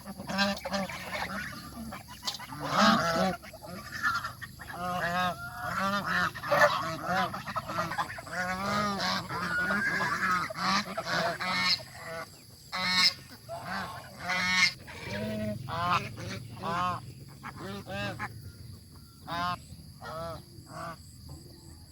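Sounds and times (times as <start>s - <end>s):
geese honking: 0.0s - 21.2s.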